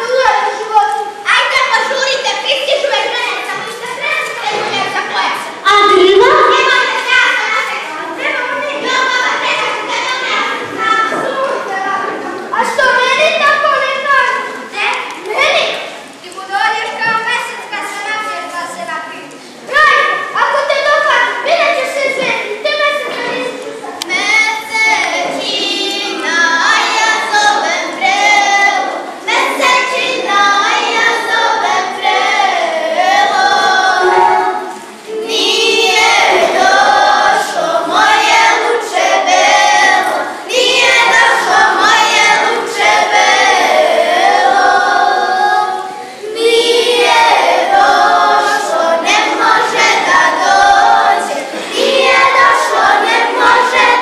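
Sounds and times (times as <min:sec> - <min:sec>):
girls singing unaccompanied: 0:00.0 - 0:54.0.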